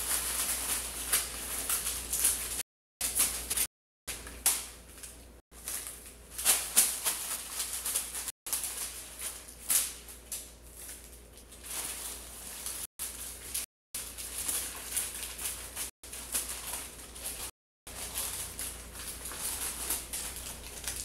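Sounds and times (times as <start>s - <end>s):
paper rustling and crackling: 0.0s - 21.0s.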